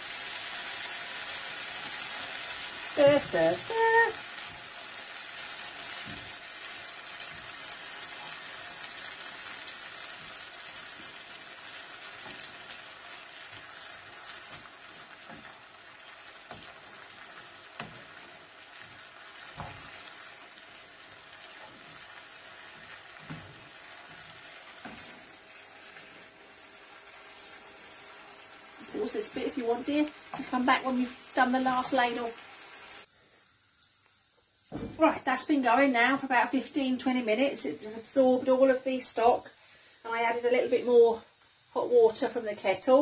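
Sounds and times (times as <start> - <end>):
rice sizzling in a frying pan: 0.0 - 43.0.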